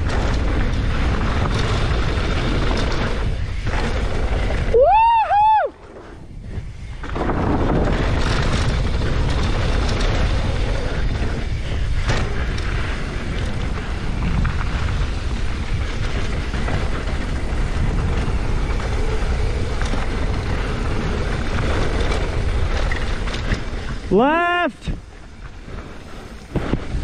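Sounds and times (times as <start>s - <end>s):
bike knocks and rattles: 0.0s - 4.8s, 5.8s - 24.1s, 25.0s - 27.0s
bike tyre noise: 0.0s - 27.0s
wind rushing over microphone: 0.0s - 27.0s.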